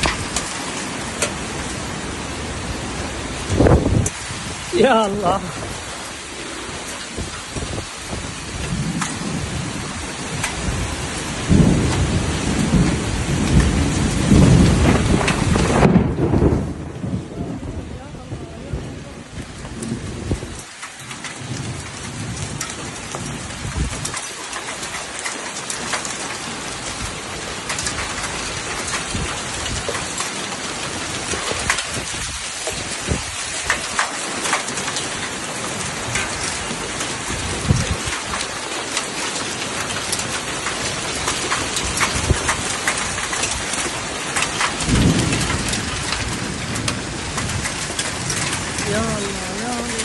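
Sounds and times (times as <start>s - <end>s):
hailstones striking hard surfaces: 0.0s - 16.8s, 19.2s - 50.0s
heavy rain pouring: 0.0s - 50.0s.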